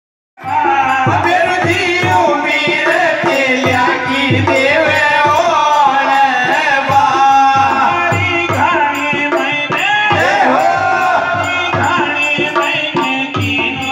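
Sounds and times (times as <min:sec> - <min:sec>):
folk song over loudspeakers: 0:00.4 - 0:13.9
person singing: 0:00.4 - 0:13.9
rattling percussion: 0:00.4 - 0:13.9
steady drum beat: 0:00.4 - 0:13.9.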